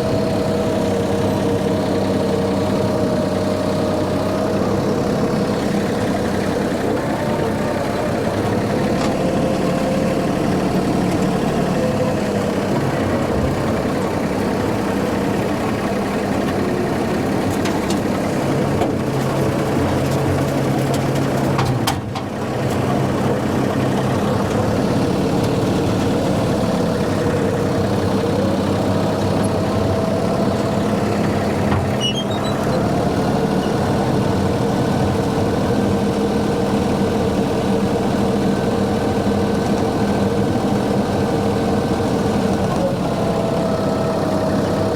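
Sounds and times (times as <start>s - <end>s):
rotary mower cutting weeds: 0.0s - 44.9s
tractor engine running: 0.0s - 44.9s.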